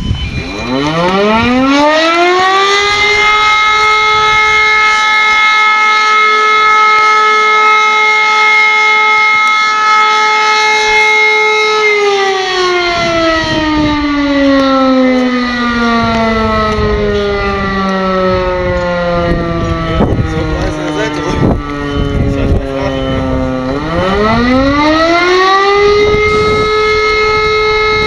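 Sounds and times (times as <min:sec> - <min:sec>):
siren winding down: 0:00.0 - 0:28.0.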